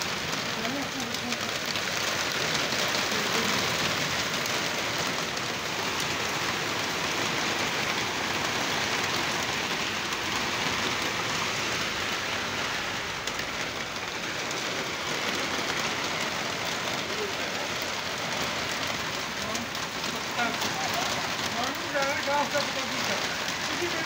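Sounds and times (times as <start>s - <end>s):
heavy rain on wet road: 0.0s - 24.0s.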